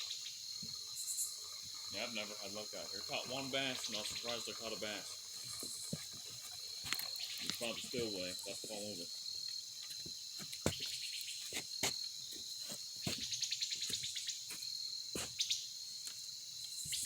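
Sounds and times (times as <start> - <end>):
fast pulsing insect trill: 0.0 - 17.0
insects trilling: 0.0 - 17.0.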